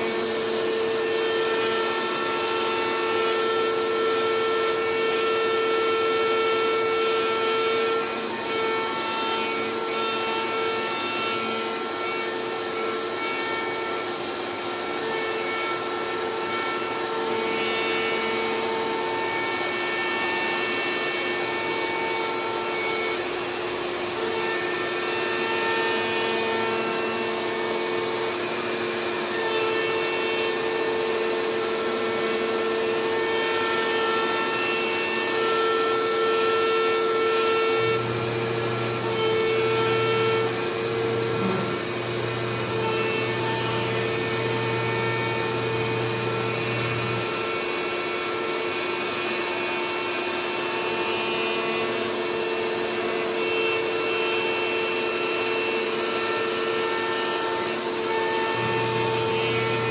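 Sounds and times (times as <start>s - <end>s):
dust extraction vacuum: 0.0s - 59.9s
router spindle whine: 0.0s - 59.9s.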